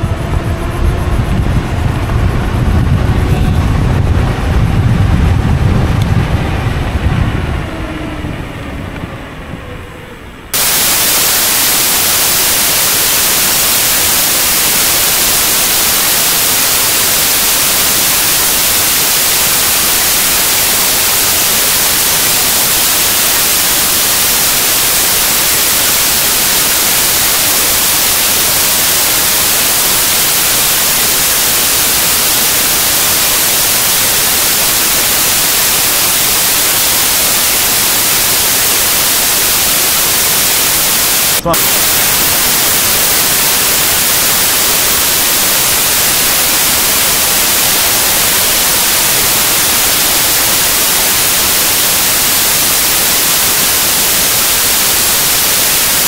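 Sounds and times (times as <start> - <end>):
static hiss: 10.5 - 56.0.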